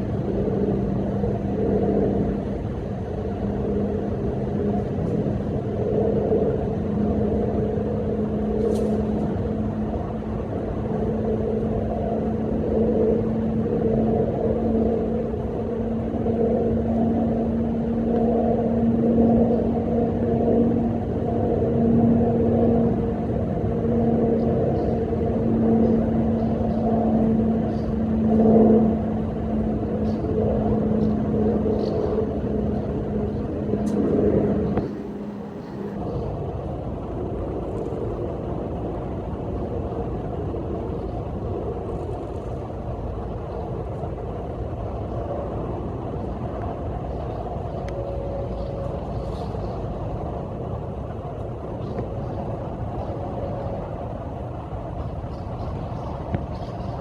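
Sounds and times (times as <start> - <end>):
low rumble with hum: 0.0 - 57.0.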